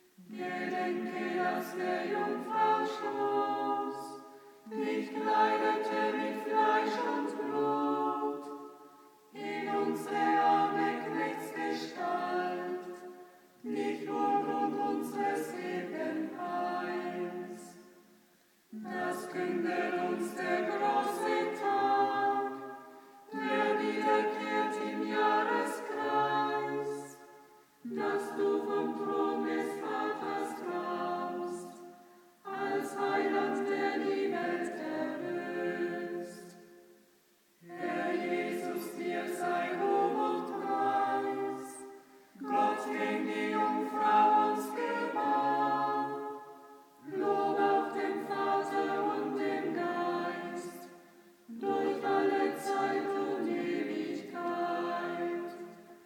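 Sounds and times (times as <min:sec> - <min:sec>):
group singing a cappella chant: 0:00.0 - 0:56.0.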